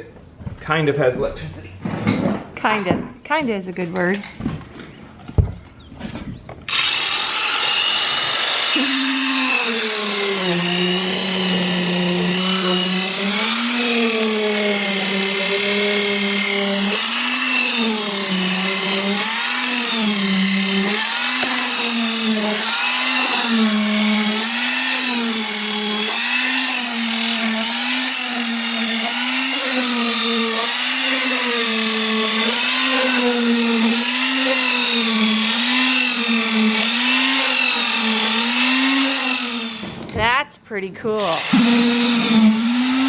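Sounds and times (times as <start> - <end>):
concrete vibrator motor whine: 0.0 - 40.3, 41.2 - 43.0.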